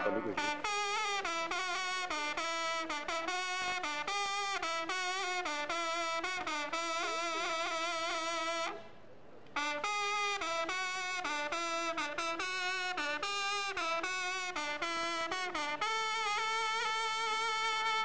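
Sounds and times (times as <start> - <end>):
hunting horns playing: 0.0 - 8.8, 9.6 - 18.0.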